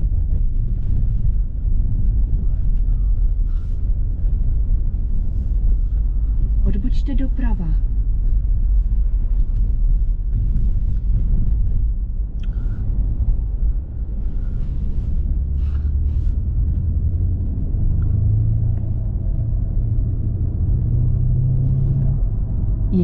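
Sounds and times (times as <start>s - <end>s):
car engine rumbling while driving: 0.0s - 23.0s.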